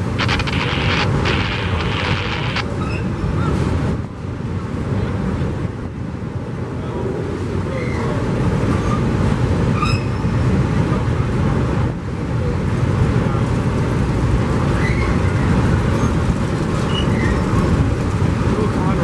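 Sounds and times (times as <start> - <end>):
passing train rumble: 0.0 - 19.0.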